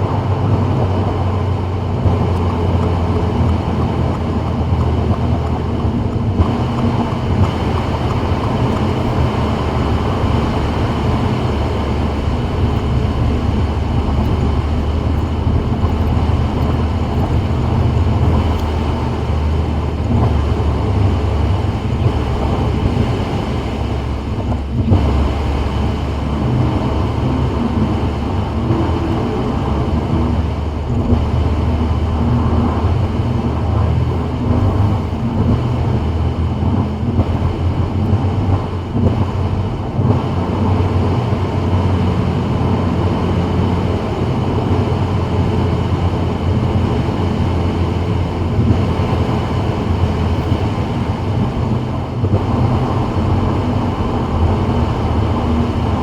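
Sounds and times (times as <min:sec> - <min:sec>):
car tyres on wet road: 0:00.0 - 0:56.0.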